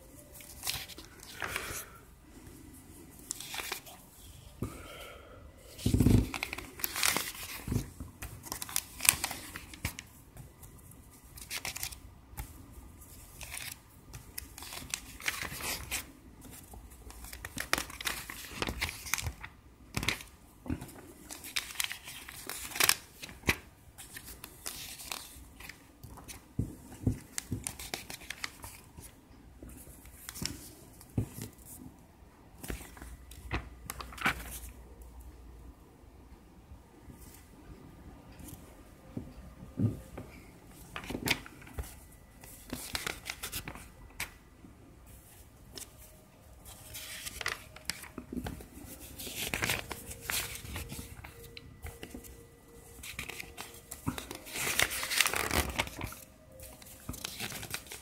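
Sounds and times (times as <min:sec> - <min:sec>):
paper rustling and crinkling: 0:00.1 - 0:04.7, 0:05.7 - 0:31.9, 0:32.6 - 0:34.8, 0:39.8 - 0:44.4, 0:45.1 - 0:58.0.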